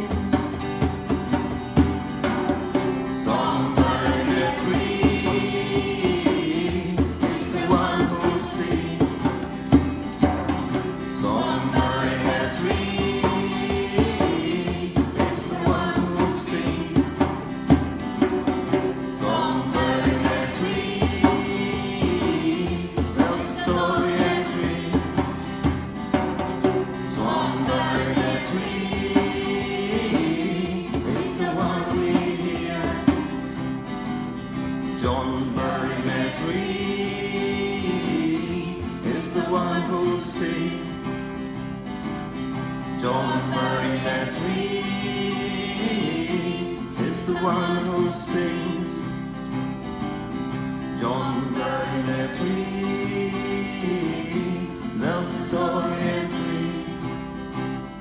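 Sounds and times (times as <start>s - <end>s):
group of voices singing: 0.0s - 0.9s, 2.5s - 49.7s, 50.9s - 57.4s
hand drum beat: 0.0s - 50.0s
strummed acoustic guitar: 0.0s - 58.0s.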